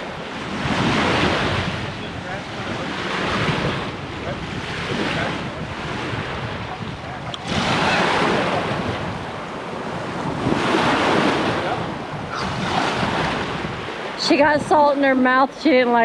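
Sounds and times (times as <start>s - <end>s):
small waves washing onto beach: 0.0s - 16.0s
wind buffeting microphone: 0.0s - 16.0s.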